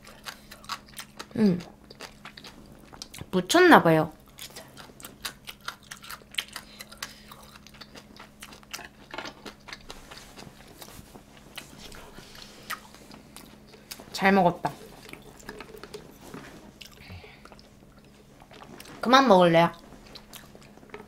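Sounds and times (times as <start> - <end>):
person chewing with wet clicks: 0.0 - 3.4, 4.2 - 19.0, 19.7 - 21.0
faint steady hum: 0.0 - 21.0.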